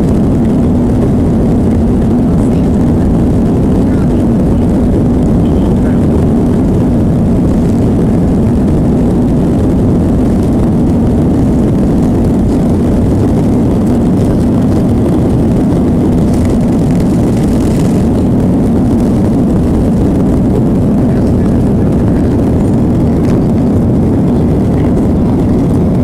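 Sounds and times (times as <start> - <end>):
jet engines inside cabin: 0.0 - 26.0.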